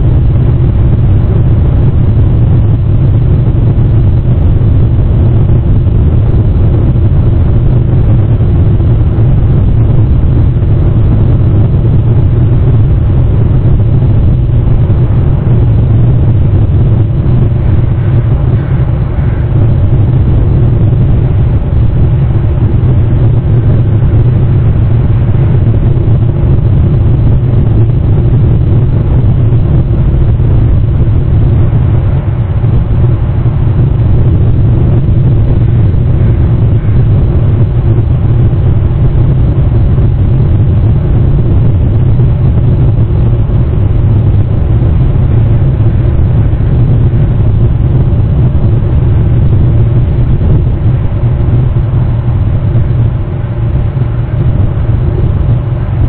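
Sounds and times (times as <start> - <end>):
low background rumble: 0.0 - 56.0.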